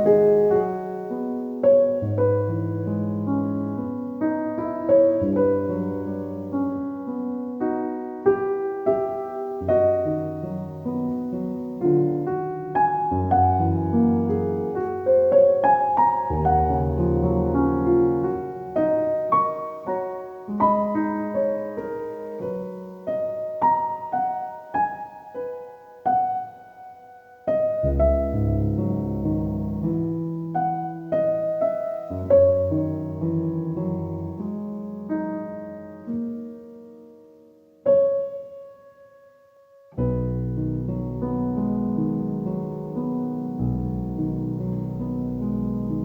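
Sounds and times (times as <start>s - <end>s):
gentle solo piano piece: 0.0s - 46.0s.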